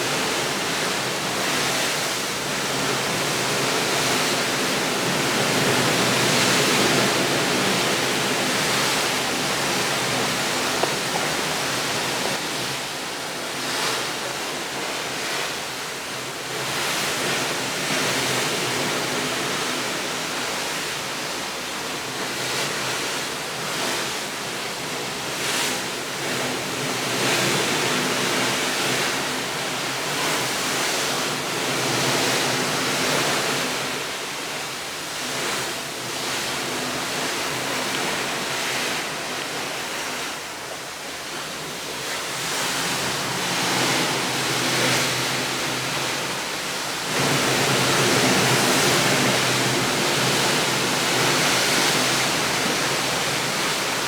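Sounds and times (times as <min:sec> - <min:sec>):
continuous rushing noise: 0:00.0 - 0:54.0.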